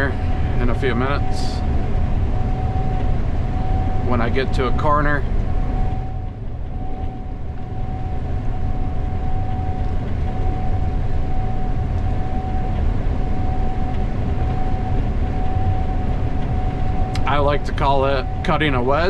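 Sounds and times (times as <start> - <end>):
combine harvester rumbling: 0.0 - 19.0
high whine: 0.0 - 19.0.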